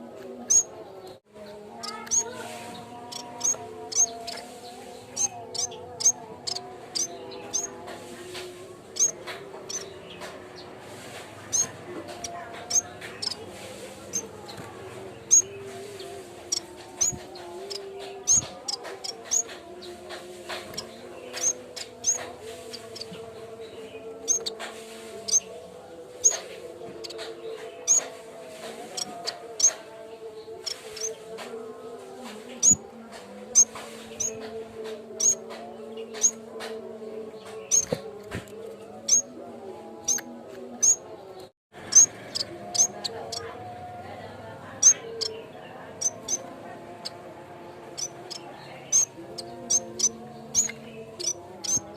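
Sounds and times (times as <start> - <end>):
bird chirping: 0.4 - 7.8, 8.9 - 10.7, 11.4 - 24.6, 26.2 - 28.2, 28.8 - 31.3, 32.6 - 32.9, 33.5 - 39.4, 40.0 - 43.8, 44.7 - 51.9.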